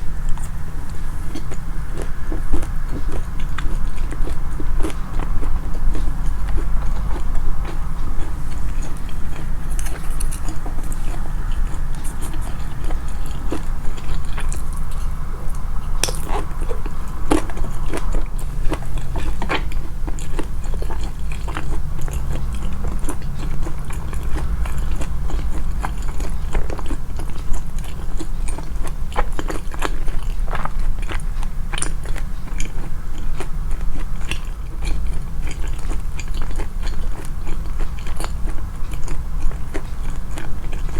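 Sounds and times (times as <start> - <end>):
chewing and biting: 0.0 - 40.9.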